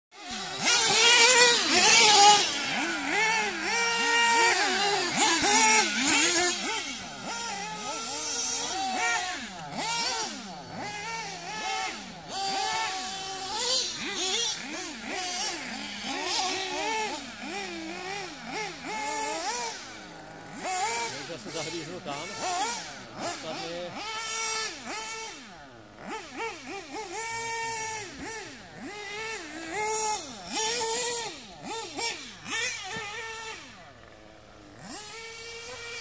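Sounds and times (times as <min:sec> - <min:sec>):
rc buggy motors buzzing: 0:00.1 - 0:36.0.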